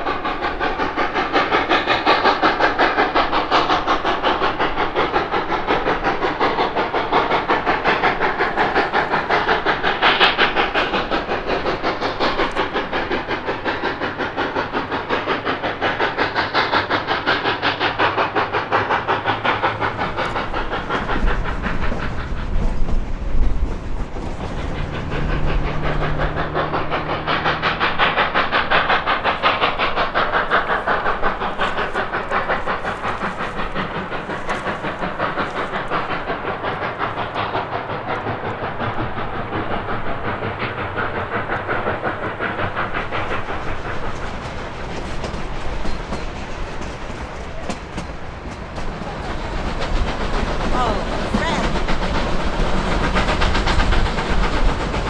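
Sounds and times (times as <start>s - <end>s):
steam train exhaust beats: 0.0s - 55.0s
train wheel clatter: 0.0s - 55.0s.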